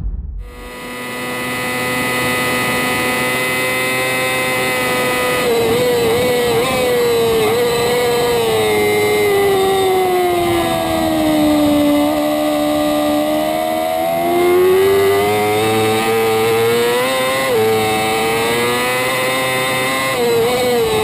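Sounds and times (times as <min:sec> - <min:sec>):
motorbike engine revving high: 0:00.0 - 0:21.0.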